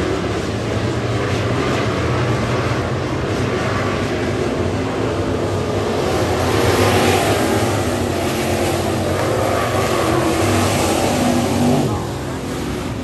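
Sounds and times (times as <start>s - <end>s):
racing car engines droning: 0.0s - 13.0s.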